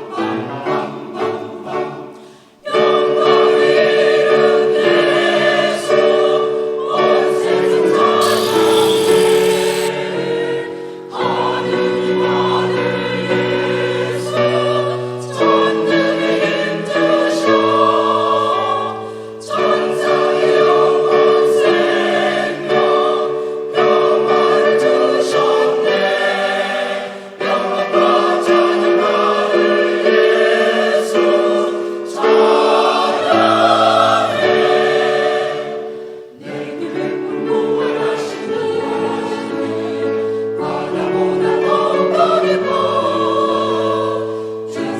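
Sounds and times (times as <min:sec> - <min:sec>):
choir singing in parts: 0:00.0 - 0:44.9.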